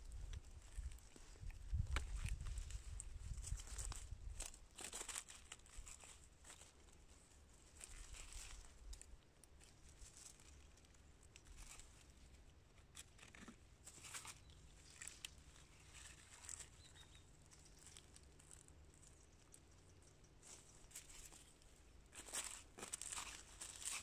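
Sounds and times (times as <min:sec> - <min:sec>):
dry leaves and twigs rustling: 0:00.0 - 0:24.0.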